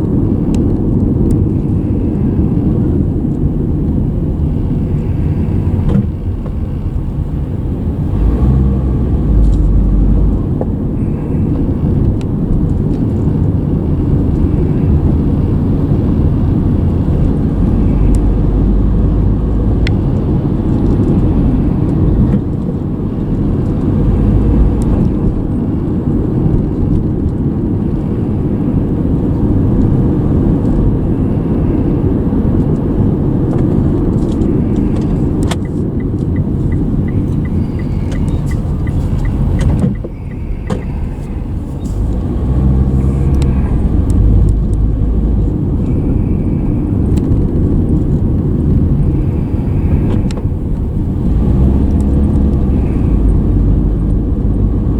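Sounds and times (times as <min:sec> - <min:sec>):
road and engine rumble: 0:00.0 - 0:54.9.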